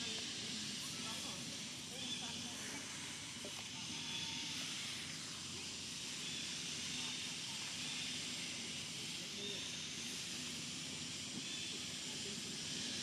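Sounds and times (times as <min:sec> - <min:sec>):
faint indistinct voices: 0:00.0 - 0:13.0
high-pitched hiss: 0:00.0 - 0:13.0.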